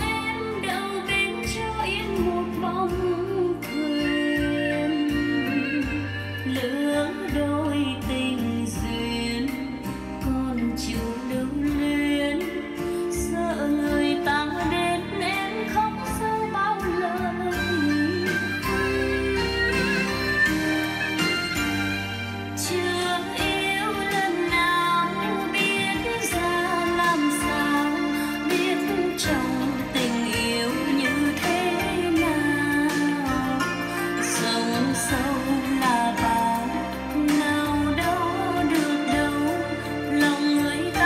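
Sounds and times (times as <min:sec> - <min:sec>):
song with singing and bass: 0:00.0 - 0:41.0.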